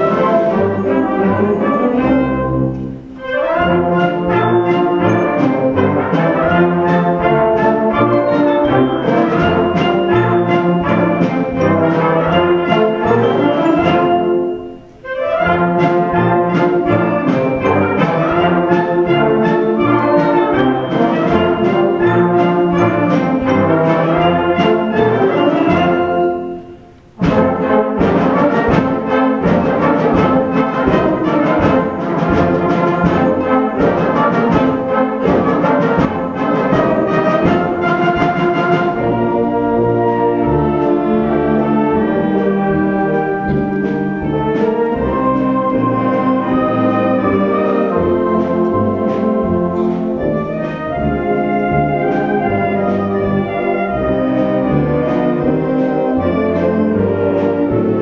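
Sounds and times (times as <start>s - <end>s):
live band with brass: 0.0s - 58.0s.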